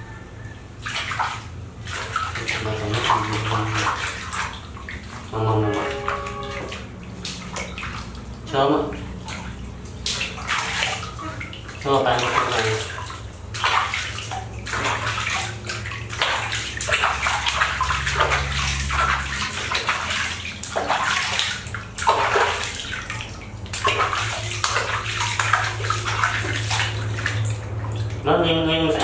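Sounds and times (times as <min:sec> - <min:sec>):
water splashing in a washbasin: 0:00.0 - 0:29.0.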